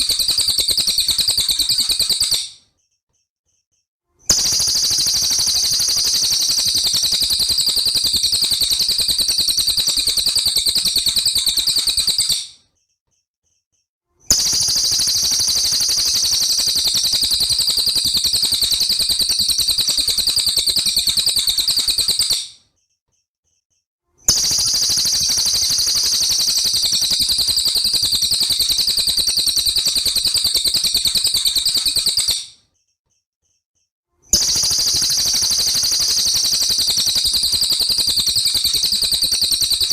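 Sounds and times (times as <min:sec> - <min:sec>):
songbird rattling trill: 0:00.0 - 0:02.5, 0:04.3 - 0:12.5, 0:14.3 - 0:22.5, 0:24.3 - 0:32.5, 0:34.4 - 0:39.9.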